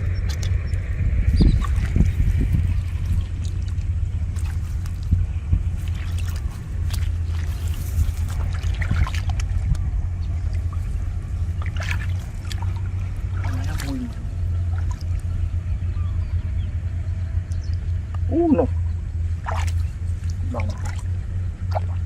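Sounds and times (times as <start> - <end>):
shallow water splashing: 0.0 - 15.6, 18.6 - 22.0
steady low rumble: 0.0 - 22.0.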